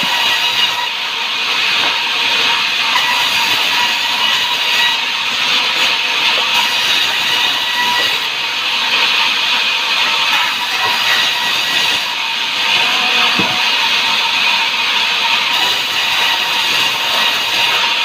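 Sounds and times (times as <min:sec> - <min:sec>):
saw cutting through timber: 0:00.0 - 0:18.0.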